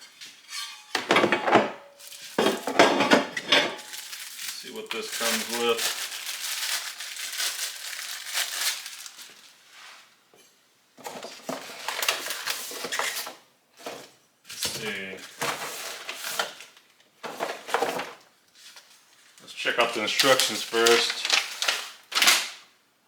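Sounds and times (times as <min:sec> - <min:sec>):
packaging rustling and crinkling: 0:02.0 - 0:03.0, 0:03.6 - 0:10.1, 0:11.0 - 0:22.7.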